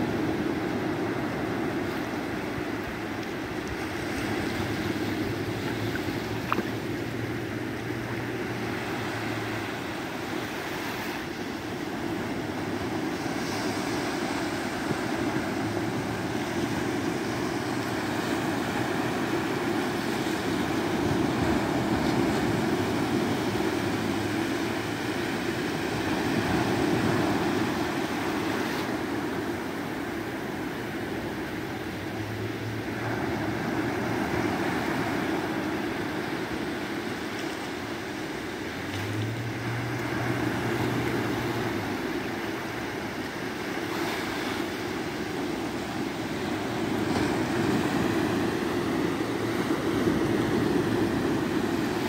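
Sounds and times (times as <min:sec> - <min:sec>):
small waves breaking on beach: 0:00.0 - 0:52.0.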